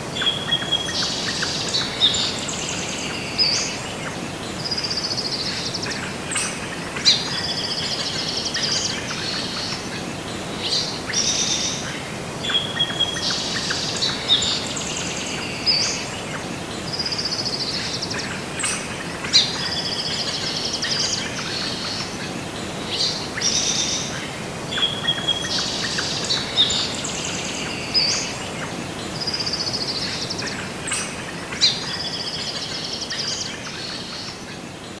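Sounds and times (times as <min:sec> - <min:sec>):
steady outdoor hiss: 0:00.0 - 0:35.0
songbirds chirping and singing: 0:00.1 - 0:35.0.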